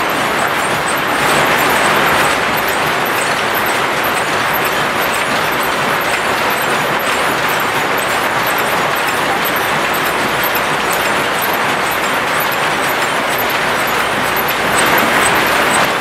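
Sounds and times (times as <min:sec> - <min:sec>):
faint rapid ticking: 0:00.0 - 0:16.0
weaving looms running: 0:00.0 - 0:16.0.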